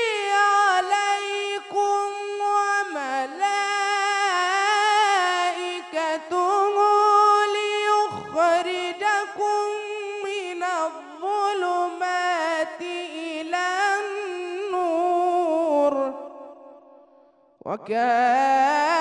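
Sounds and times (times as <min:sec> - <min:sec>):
man chanting melodically: 0:00.0 - 0:17.0, 0:17.6 - 0:19.0.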